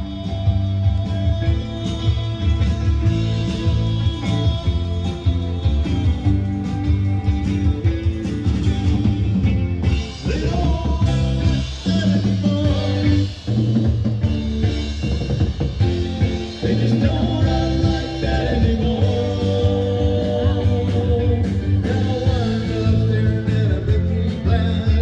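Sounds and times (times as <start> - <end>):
person singing: 0.0 - 7.8, 9.4 - 13.6, 16.2 - 25.0
drum kit: 0.0 - 25.0
thick bass line: 0.0 - 25.0.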